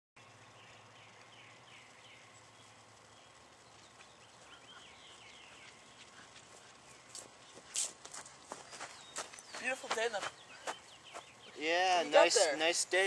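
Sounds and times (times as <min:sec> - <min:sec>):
faint birdsong chirps: 0:00.2 - 0:13.0
outdoor background noise: 0:00.2 - 0:13.0.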